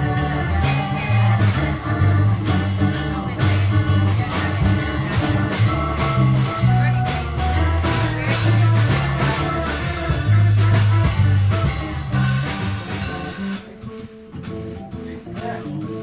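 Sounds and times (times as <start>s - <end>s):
drum kit: 0.0s - 16.0s
organ: 0.0s - 16.0s
plucked bass notes: 0.0s - 16.0s.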